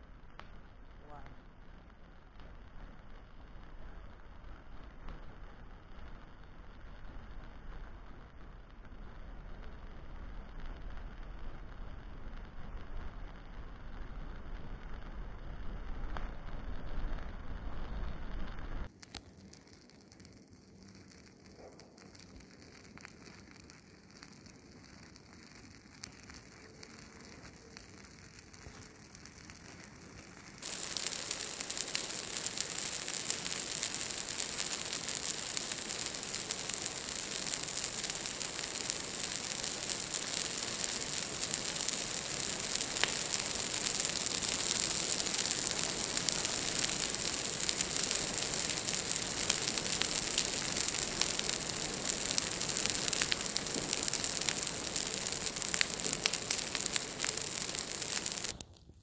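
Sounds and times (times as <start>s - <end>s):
fire crackling and hissing: 0.0s - 59.0s.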